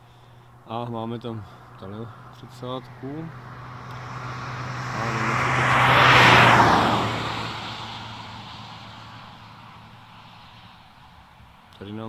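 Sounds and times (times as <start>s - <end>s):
vehicle passing by: 0.4s - 11.6s.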